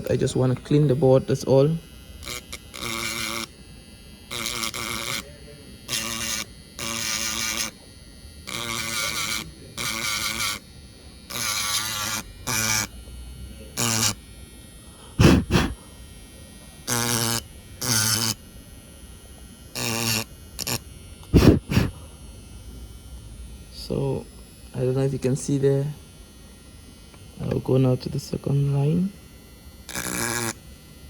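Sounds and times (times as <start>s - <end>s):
handheld electric tool buzzing: 0.0s - 31.0s.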